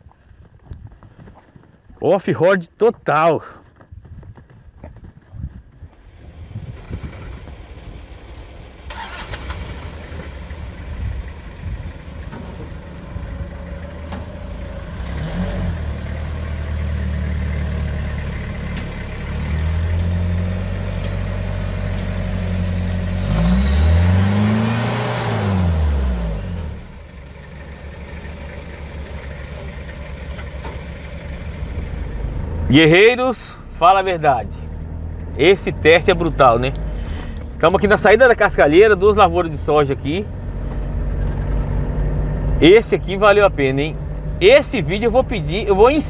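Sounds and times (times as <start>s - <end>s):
diesel pickup engine revving: 6.0s - 46.0s.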